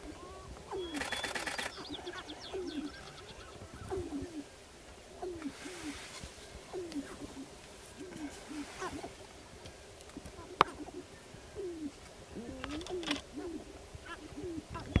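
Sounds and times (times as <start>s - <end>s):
grouse cooing hoots: 0.0s - 15.0s.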